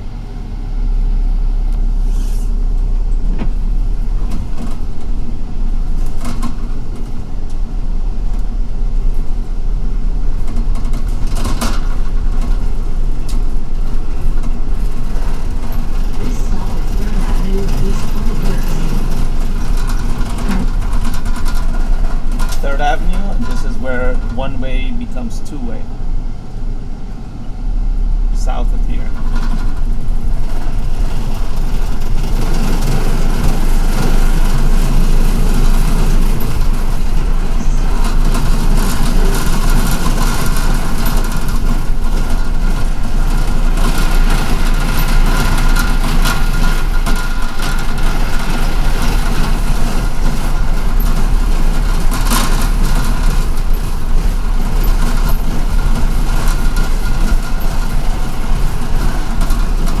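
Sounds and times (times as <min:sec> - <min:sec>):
bus engine rumble: 0:00.0 - 1:00.0
faint whine: 0:00.0 - 1:00.0
road noise: 0:00.0 - 1:00.0.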